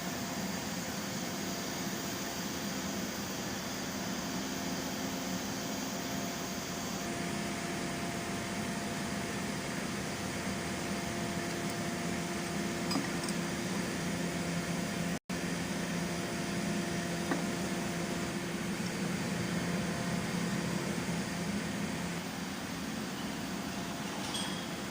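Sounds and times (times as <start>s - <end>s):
mechanical hum with hiss: 0.0s - 24.9s.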